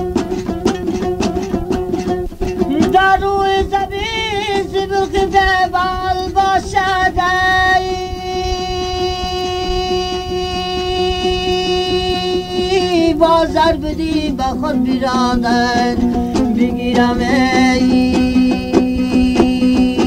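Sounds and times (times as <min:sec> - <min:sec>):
strummed long-necked lute: 0:00.0 - 0:20.0
high singing voice: 0:02.6 - 0:20.0.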